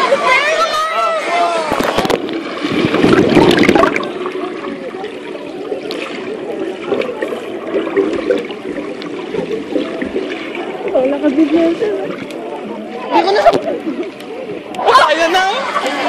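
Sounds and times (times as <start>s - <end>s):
water splashing: 0.0s - 16.0s
underwater bubbling and gurgling: 1.6s - 14.8s.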